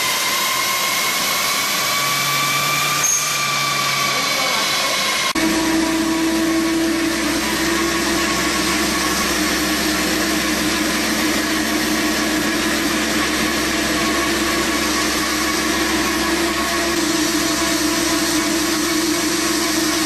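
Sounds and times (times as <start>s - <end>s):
car engine droning under load: 0.0s - 20.0s.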